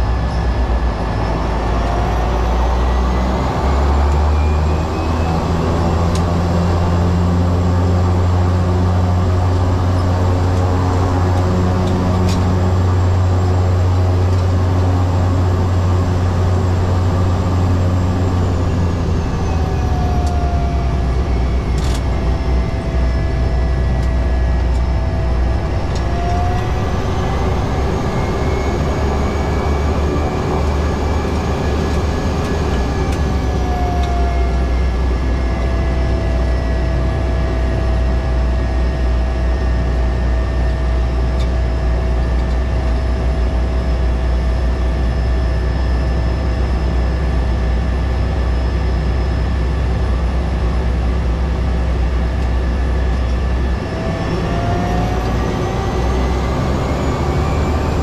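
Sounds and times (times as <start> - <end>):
turboprop droning in flight: 0.0 - 58.0.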